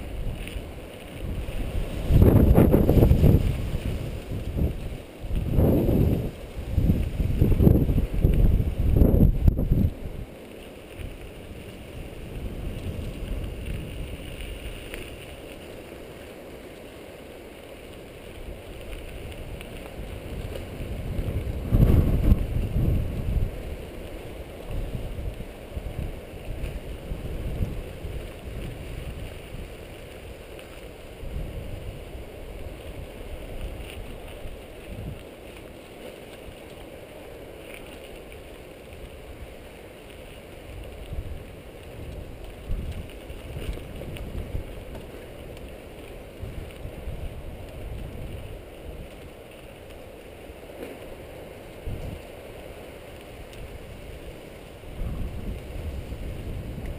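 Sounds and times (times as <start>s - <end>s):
wind rushing over microphone: 0.0s - 16.7s, 18.0s - 56.9s.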